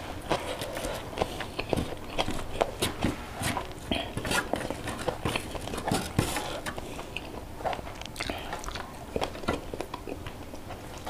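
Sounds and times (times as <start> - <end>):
chewing: 0.2 - 2.8, 3.6 - 11.0.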